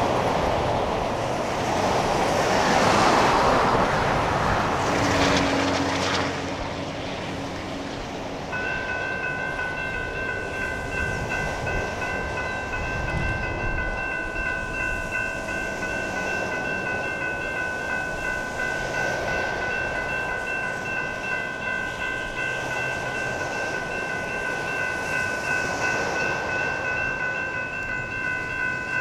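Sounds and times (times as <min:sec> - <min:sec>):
crossing warning bells ringing: 0:00.0 - 0:29.0.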